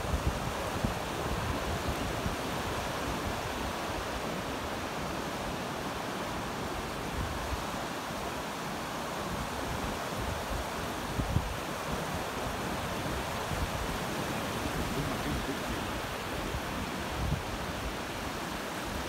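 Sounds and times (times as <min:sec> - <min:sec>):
wind rumbling on microphone: 0:00.0 - 0:05.7, 0:09.4 - 0:19.0
ocean surf on beach: 0:00.0 - 0:19.0.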